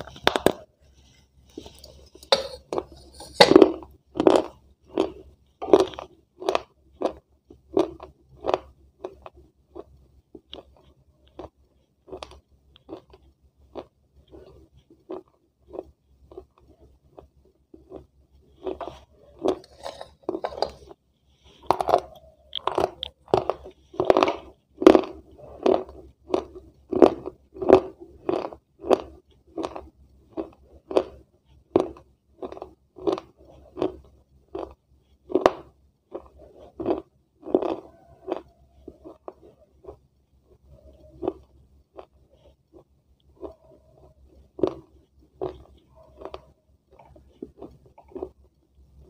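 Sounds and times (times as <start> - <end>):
person chewing crunchy food: 0.0 - 49.0.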